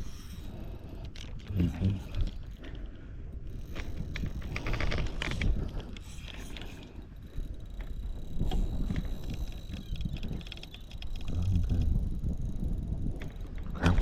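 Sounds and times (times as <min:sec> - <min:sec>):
fishing reel clicking: 0:00.0 - 0:14.0.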